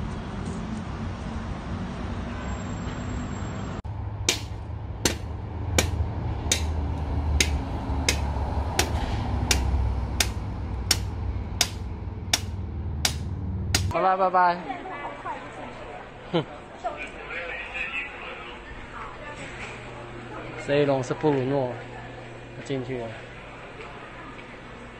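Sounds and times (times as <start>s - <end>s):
outdoor background noise: 0.0s - 24.9s.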